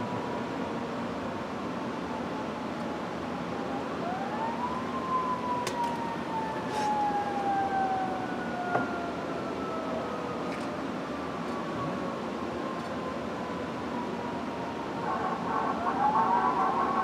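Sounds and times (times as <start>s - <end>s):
siren wailing: 2.5s - 17.0s.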